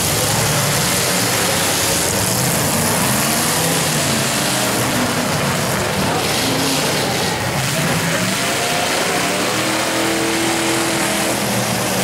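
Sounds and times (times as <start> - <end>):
car engines running: 0.0 - 12.0
loud rush of noise: 0.0 - 12.0.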